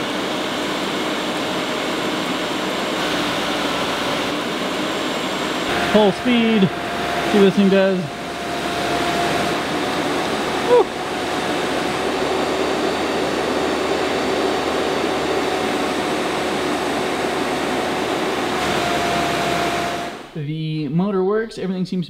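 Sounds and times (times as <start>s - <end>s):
blower fan rushing air: 0.0s - 20.4s.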